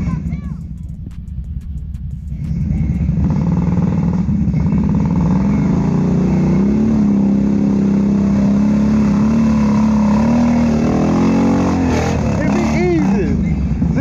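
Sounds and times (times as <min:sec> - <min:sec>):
atv engine under throttle: 0:00.0 - 0:14.0.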